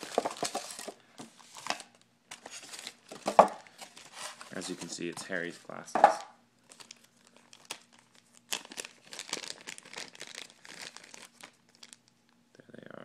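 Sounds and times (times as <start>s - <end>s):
plastic bag crinkling: 0.0s - 5.5s, 6.6s - 12.3s.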